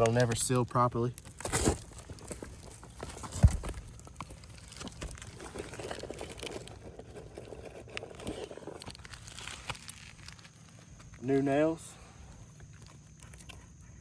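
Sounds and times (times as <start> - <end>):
shingles rustling and tapping: 0.0 - 11.2.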